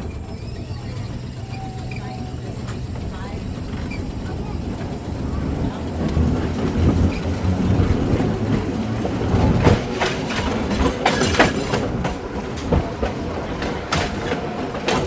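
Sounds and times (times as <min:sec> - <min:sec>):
trolley car rumbling: 0:00.0 - 0:15.0
wheels clacking over rail joints: 0:00.0 - 0:15.0.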